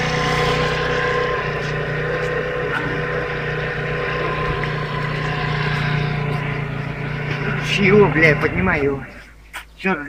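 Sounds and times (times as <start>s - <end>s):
motor drone: 0.0s - 9.6s.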